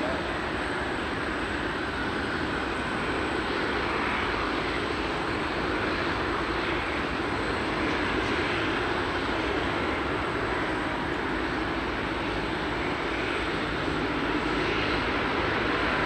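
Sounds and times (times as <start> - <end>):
jet airliner rumble: 0.0 - 16.0.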